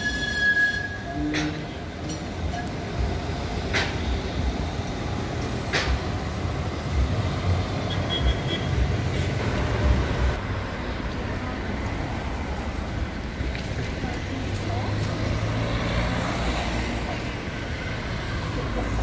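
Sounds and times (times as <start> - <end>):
traffic engines rumbling: 0.0 - 19.0
tram: 0.0 - 19.0.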